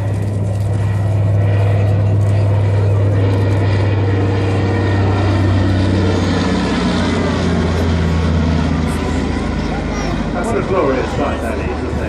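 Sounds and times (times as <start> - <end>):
propeller aircraft drone: 0.0 - 12.0.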